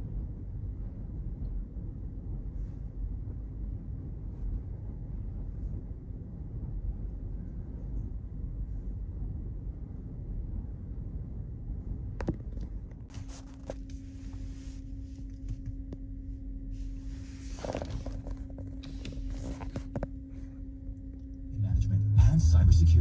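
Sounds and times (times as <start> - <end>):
steady hum tone: 0.0 - 23.0.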